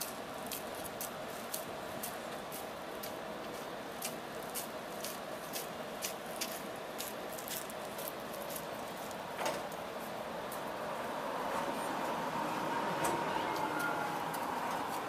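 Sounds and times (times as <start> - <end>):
tram running hum: 0.0 - 15.0.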